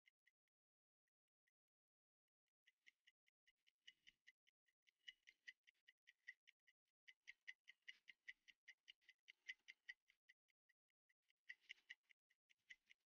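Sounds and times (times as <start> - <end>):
stopwatch ticking: 0.0 - 0.4, 2.5 - 13.0.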